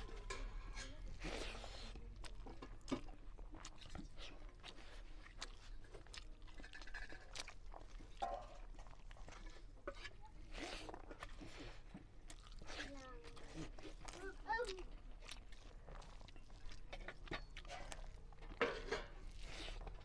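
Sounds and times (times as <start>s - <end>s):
man chewing and mouth smacking: 0.0s - 20.0s.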